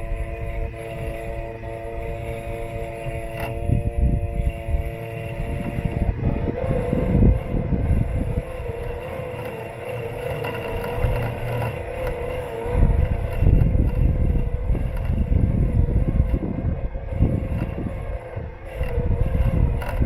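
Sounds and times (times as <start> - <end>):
low rumble: 0.0 - 20.0
robot lawn mower motor whine: 0.0 - 20.0.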